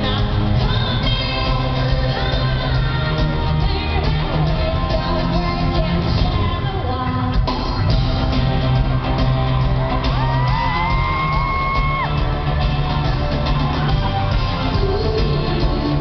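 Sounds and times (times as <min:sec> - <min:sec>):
live pop-rock band music: 0:00.0 - 0:16.0.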